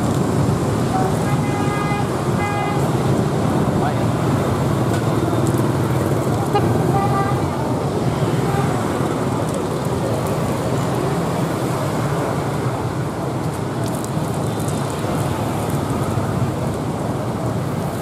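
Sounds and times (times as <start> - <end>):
street background noise: 0.0 - 18.0.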